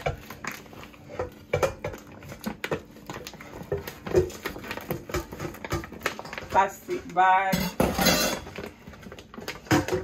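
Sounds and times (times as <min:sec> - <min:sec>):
plastic bag crinkling: 0:02.0 - 0:10.0.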